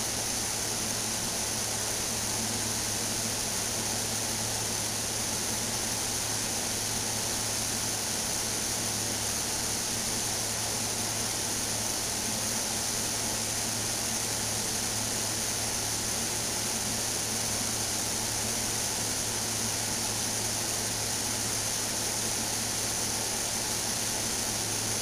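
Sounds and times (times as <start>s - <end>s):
wood stove rushing hiss: 0.0s - 25.0s.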